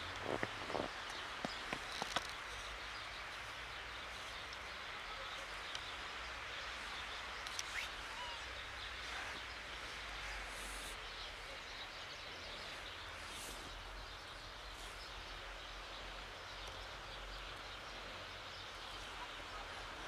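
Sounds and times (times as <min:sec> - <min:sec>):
soft hiss: 0:00.0 - 0:20.0.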